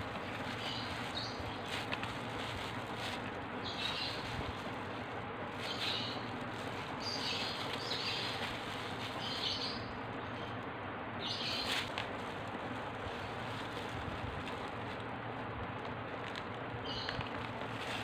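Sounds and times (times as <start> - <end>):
plastic glove crinkling: 0.0 - 10.6, 11.3 - 18.0
steady background hiss: 0.0 - 18.0.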